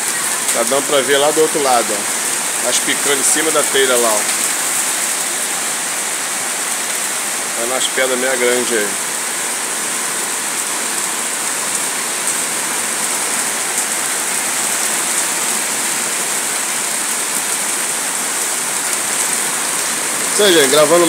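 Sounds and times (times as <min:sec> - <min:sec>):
hail hits: 0:00.0 - 0:21.0
heavy rain on metal roof: 0:00.0 - 0:21.0.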